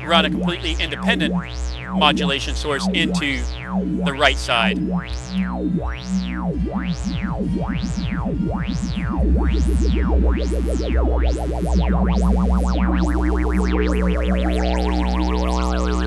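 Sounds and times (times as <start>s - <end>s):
fast warbling synth sweep: 0.0s - 16.0s
synthesizer drone with filter sweeps: 0.0s - 16.0s.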